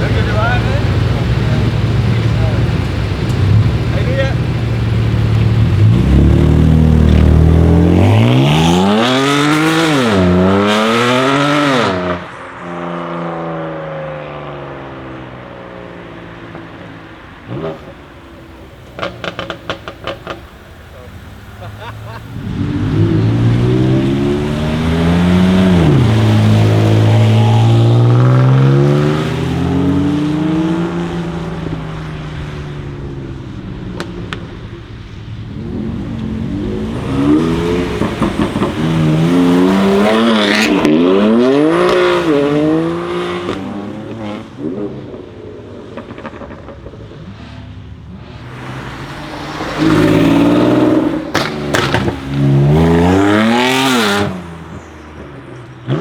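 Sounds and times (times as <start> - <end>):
exhaust pops and crackles: 0.0 - 9.9, 15.0 - 42.6, 43.4 - 56.0
car engine revving: 0.0 - 56.0.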